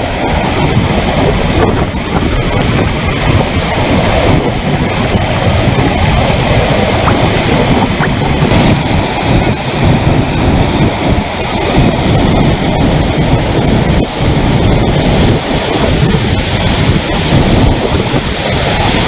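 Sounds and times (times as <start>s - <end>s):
rushing floodwater: 0.0s - 19.0s
wind buffeting microphone: 0.0s - 19.0s.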